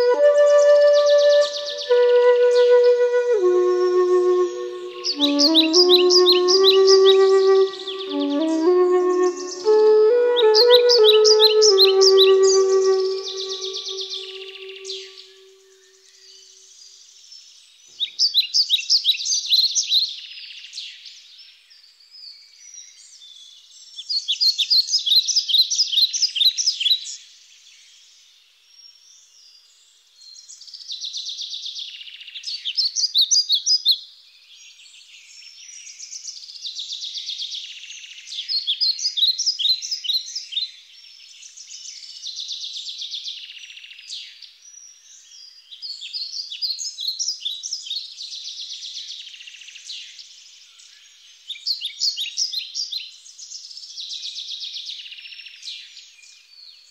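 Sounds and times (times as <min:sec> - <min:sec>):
songbird singing: 0:00.0 - 0:21.2, 0:28.8 - 0:56.9
faint bird chirping: 0:00.0 - 0:56.9.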